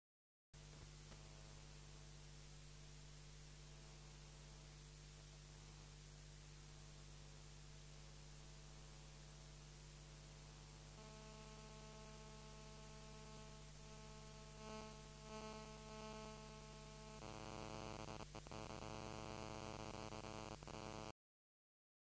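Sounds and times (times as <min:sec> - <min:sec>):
electrical mains hum: 0:00.6 - 0:21.1.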